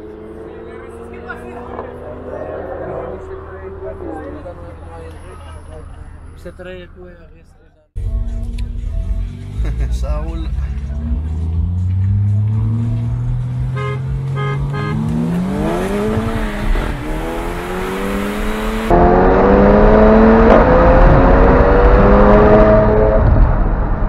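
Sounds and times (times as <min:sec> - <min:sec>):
car engine at full throttle: 0:00.0 - 0:06.3, 0:08.2 - 0:24.0.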